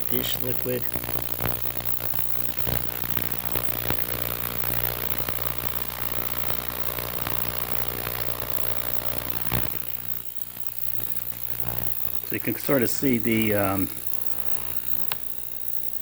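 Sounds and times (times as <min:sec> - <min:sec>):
ultrasonic cleaner buzzing hum: 0:00.0 - 0:16.0.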